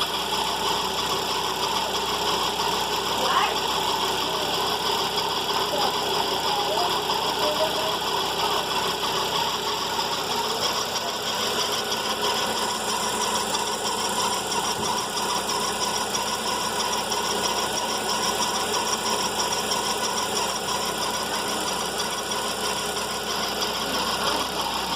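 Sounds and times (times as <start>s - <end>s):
car engine idling: 0.0s - 24.9s
pulley bearing noise: 0.0s - 24.9s.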